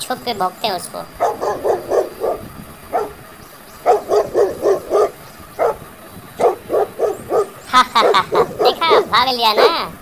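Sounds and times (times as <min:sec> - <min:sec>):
dog barking: 0:01.2 - 0:03.2, 0:03.8 - 0:09.9.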